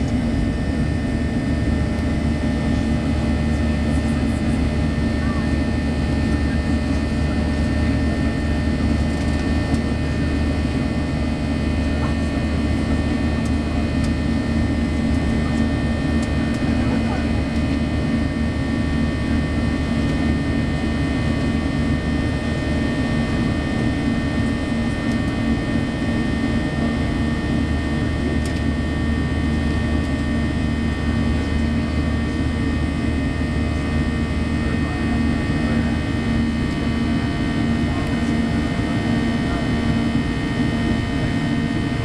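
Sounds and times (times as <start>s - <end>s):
airliner cabin engine rush: 0.0s - 42.0s
constant low hum: 0.0s - 42.0s.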